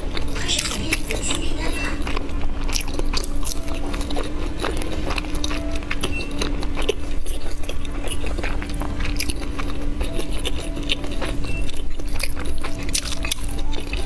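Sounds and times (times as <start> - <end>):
chewing and biting: 0.0 - 14.0.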